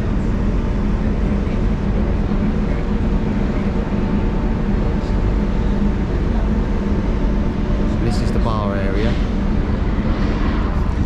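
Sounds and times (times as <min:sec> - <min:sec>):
ferry machinery hum: 0:00.0 - 0:11.0.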